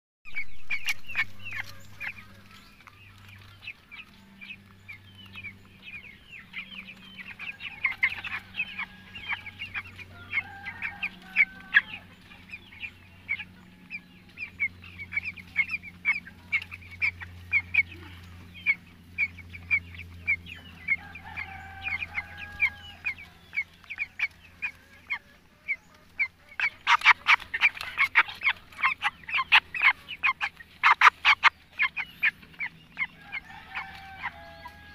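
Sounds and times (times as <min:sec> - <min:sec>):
chicks peeping and chirping: 0:00.3 - 0:34.9.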